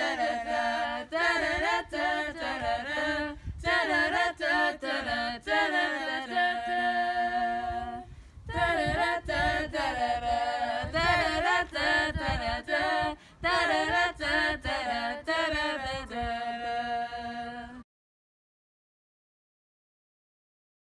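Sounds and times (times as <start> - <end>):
voices singing a cappella: 0.0 - 17.8.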